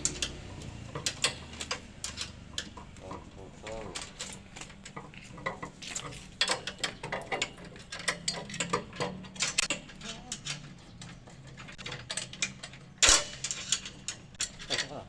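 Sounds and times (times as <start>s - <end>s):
metallic clinks of bolts: 0.0s - 15.0s.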